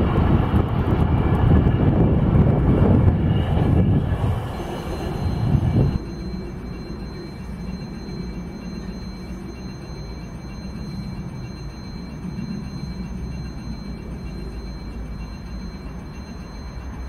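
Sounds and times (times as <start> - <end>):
loud train noise: 0.0 - 17.0
steady low rumble: 0.0 - 17.0
faint high-pitched whines: 1.0 - 17.0.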